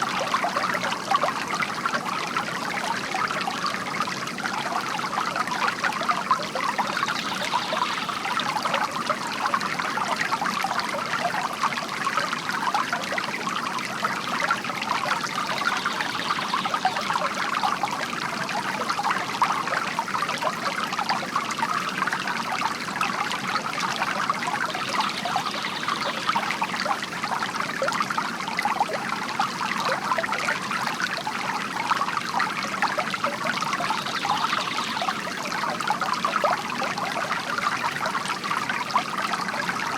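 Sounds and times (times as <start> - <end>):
water trickling into basin: 0.0 - 39.9.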